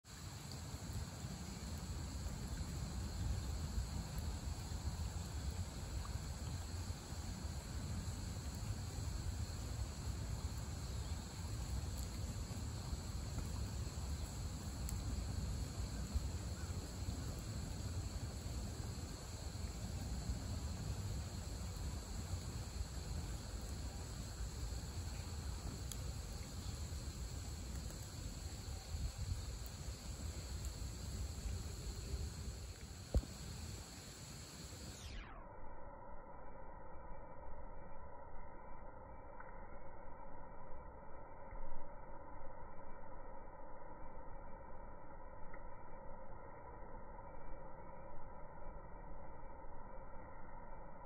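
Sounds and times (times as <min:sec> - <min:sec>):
insect chirring: 0:00.1 - 0:51.0.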